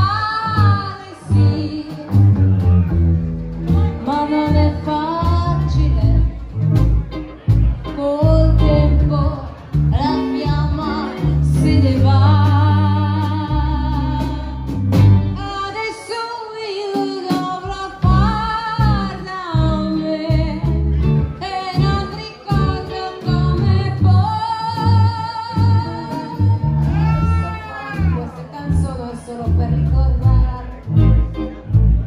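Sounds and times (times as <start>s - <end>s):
rockabilly band playing: 0.0s - 32.0s.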